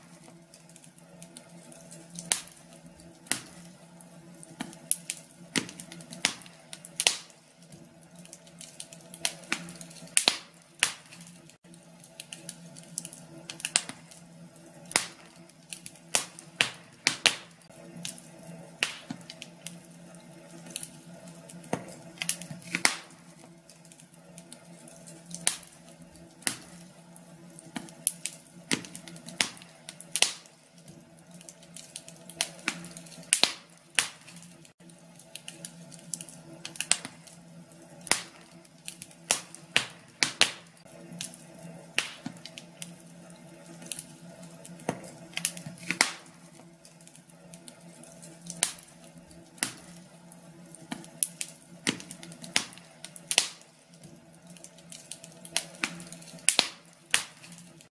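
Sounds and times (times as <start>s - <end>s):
fireplace fire crackling: 0.0s - 57.9s.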